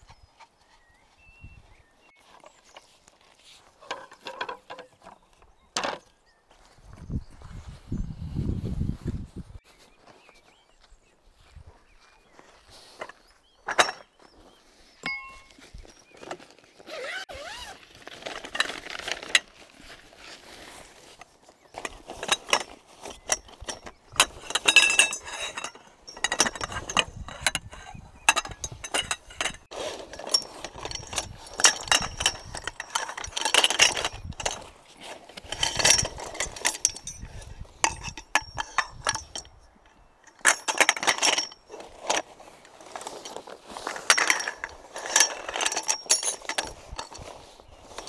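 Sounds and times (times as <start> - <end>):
camping gear clinks and knocks: 0.0 - 7.2, 12.6 - 48.0.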